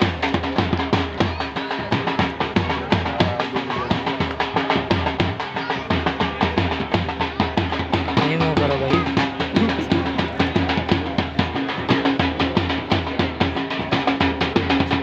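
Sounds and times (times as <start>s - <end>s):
music with drum beat and bass: 0.0s - 15.0s.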